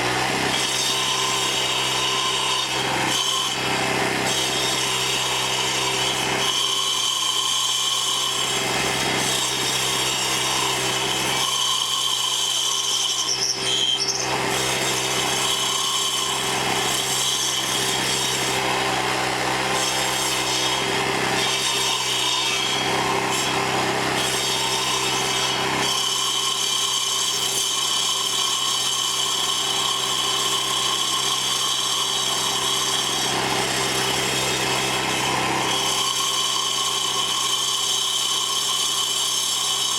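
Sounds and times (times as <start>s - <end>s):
saw blades grinding into wood: 0.0s - 39.9s.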